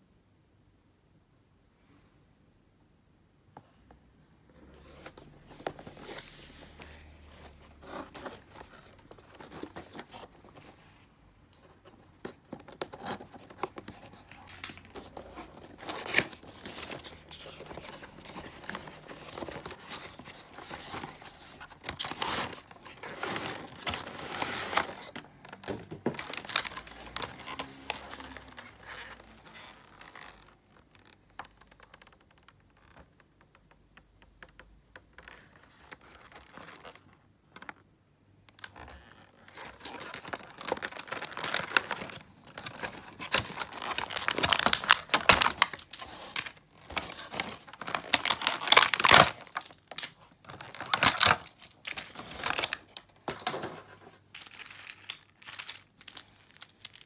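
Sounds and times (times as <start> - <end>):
cardboard and plastic crinkling: 4.6 - 33.7, 34.5 - 37.9, 38.5 - 57.0.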